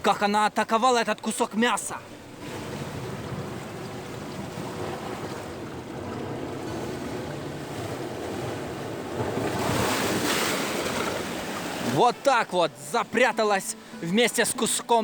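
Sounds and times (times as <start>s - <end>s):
sea surf washing on shore: 0.0s - 15.0s.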